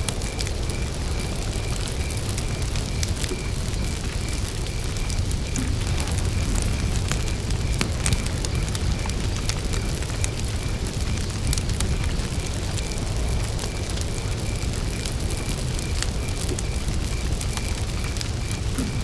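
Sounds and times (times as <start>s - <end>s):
campfire crackling and popping: 0.0s - 19.0s
cricket chirping: 0.0s - 19.0s.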